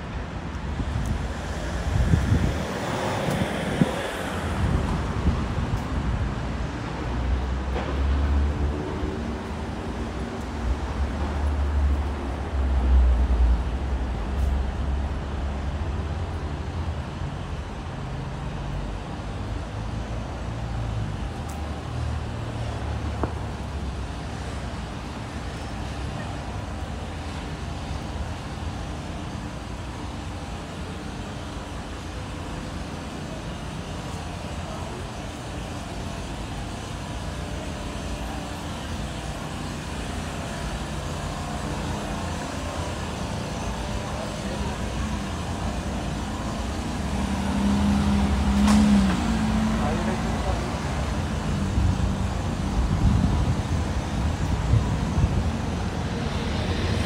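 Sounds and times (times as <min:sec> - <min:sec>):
city traffic hum: 0:00.0 - 0:57.0.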